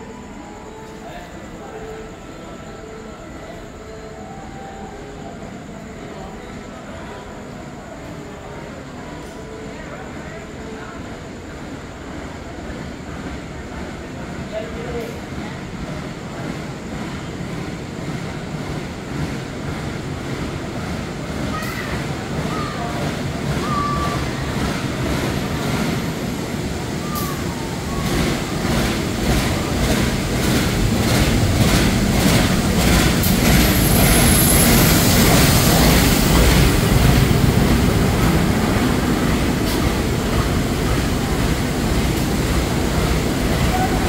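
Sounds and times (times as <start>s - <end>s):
diesel locomotive engine rumble: 0.0s - 44.0s
train coaches rolling: 0.0s - 44.0s.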